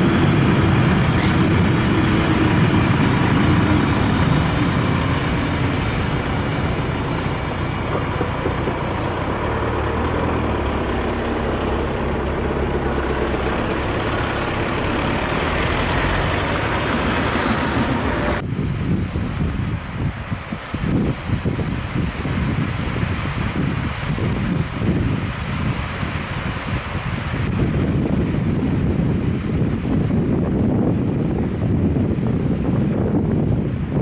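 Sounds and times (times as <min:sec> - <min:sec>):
freight train rumbling past: 0:00.0 - 0:34.0
wind noise on microphone: 0:00.0 - 0:34.0.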